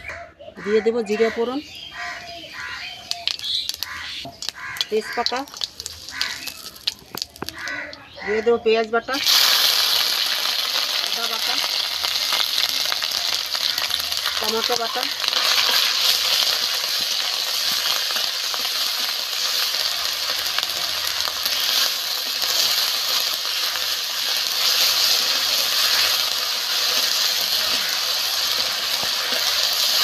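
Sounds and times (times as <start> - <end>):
paste sizzling in hot oil: 2.2 - 8.4, 9.2 - 30.0.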